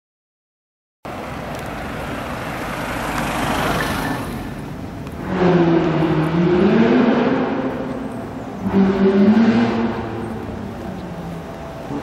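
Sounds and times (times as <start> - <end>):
vehicle passing: 1.1 - 12.0
car engine accelerating: 1.2 - 12.0.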